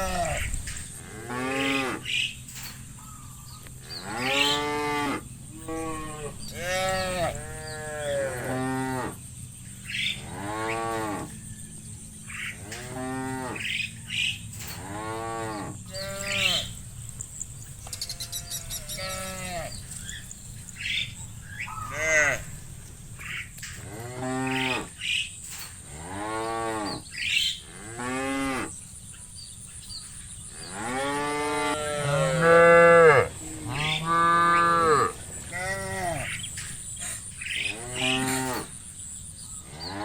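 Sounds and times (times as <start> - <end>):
cows mooing: 0.0 - 2.8, 3.8 - 9.2, 10.0 - 11.4, 12.4 - 25.0, 25.8 - 27.0, 27.6 - 28.8, 30.6 - 38.8.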